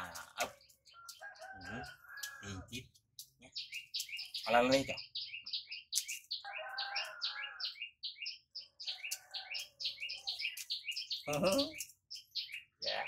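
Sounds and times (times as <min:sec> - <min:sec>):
small birds chirping rapidly: 0:00.0 - 0:13.0.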